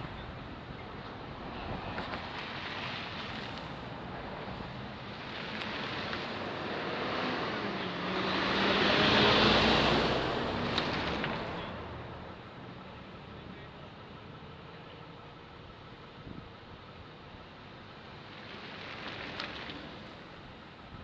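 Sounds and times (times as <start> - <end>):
vehicle passing on road: 0.0 - 21.0.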